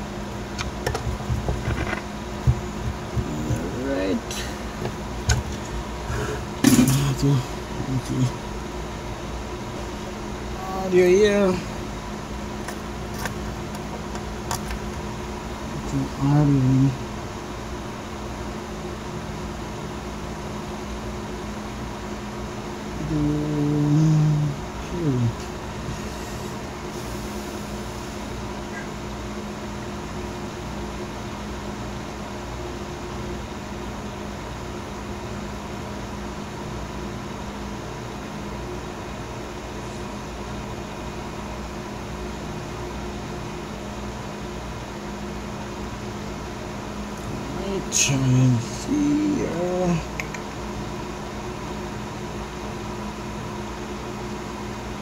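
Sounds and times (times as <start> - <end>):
cooling fan whirring: 0.0 - 55.0
faint steady hum: 0.0 - 55.0.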